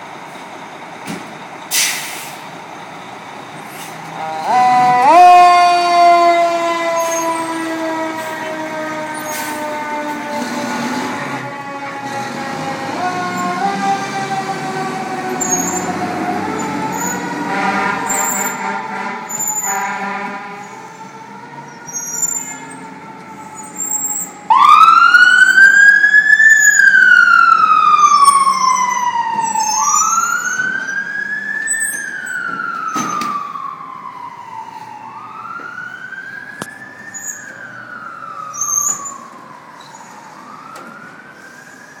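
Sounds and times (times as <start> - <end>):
siren wailing: 4.2 - 42.0.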